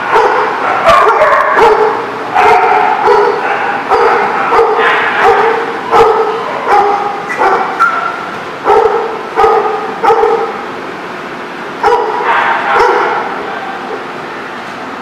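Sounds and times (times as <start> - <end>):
dog barking: 0.0 - 10.6, 11.8 - 14.0.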